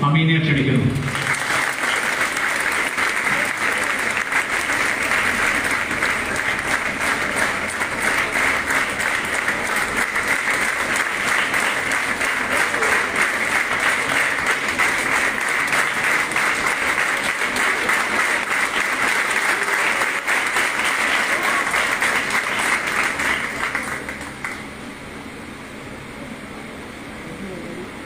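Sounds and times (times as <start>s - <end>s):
audience applauding: 1.0s - 24.7s.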